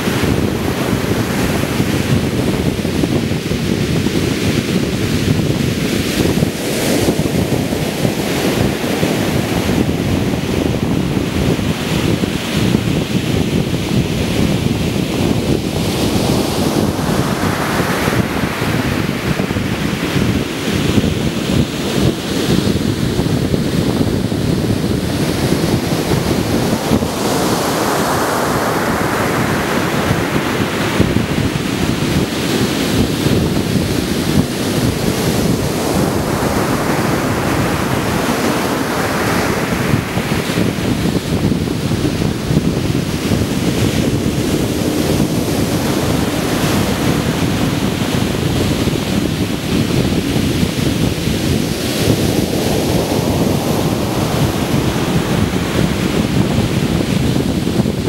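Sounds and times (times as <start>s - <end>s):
waves crashing on beach: 0.0s - 58.0s.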